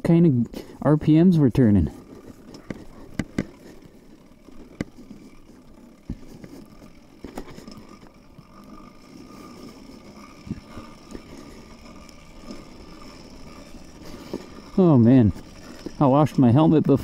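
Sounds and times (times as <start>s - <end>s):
bicycle tyres and drivetrain rumble: 0.0s - 17.0s
bicycle frame and chain clunks: 1.4s - 17.0s.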